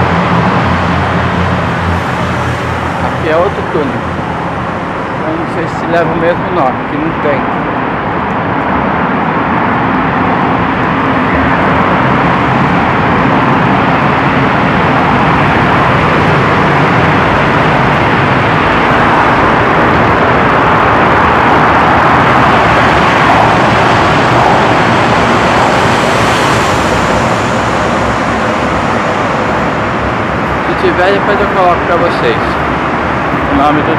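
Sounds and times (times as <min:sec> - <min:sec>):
tunnel traffic noise: 0:00.0 - 0:33.9.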